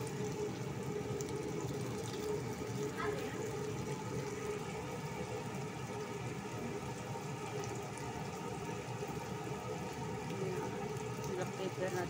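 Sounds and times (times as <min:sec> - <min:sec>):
chicken simmering in a pot: 0:00.0 - 0:12.0.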